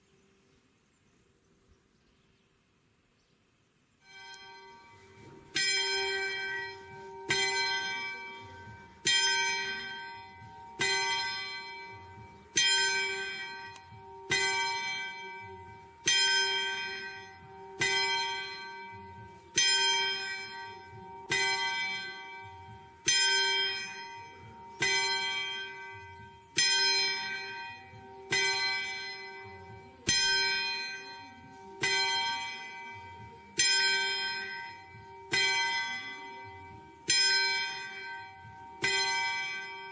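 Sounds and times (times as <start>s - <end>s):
church bell tolling: 4.0s - 39.9s.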